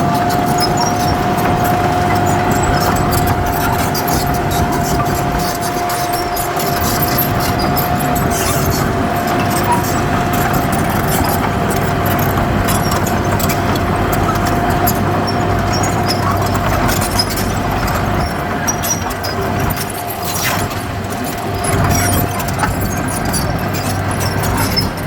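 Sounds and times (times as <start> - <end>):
diesel machinery engine: 0.0 - 25.0.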